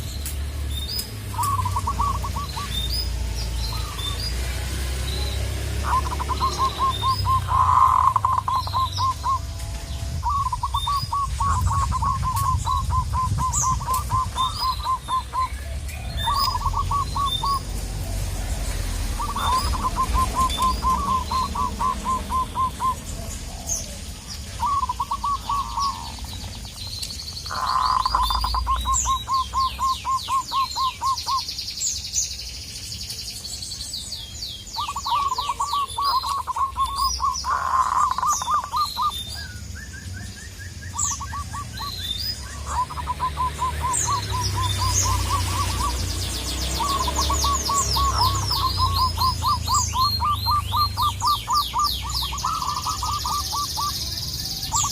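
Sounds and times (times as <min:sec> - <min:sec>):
high rising bird notes: 0:00.0 - 0:31.6, 0:34.0 - 0:54.9
small birds chirping: 0:00.0 - 0:54.9
dove stuttering cooing: 0:01.4 - 0:04.6, 0:05.4 - 0:09.4, 0:10.2 - 0:26.6, 0:27.5 - 0:31.4, 0:34.8 - 0:39.1, 0:41.0 - 0:54.0.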